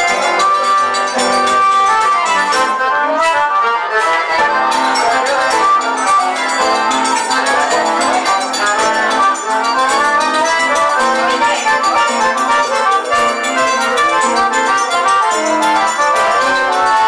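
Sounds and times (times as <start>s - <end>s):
accordion melody: 0.0s - 17.0s
strummed acoustic guitar: 0.0s - 17.0s.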